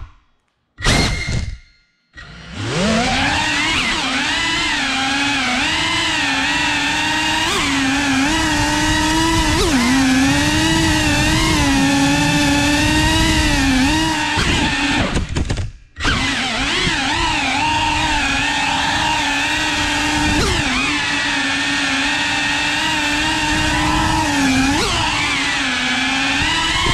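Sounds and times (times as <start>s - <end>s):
quadcopter motors whining: 2.2s - 26.9s.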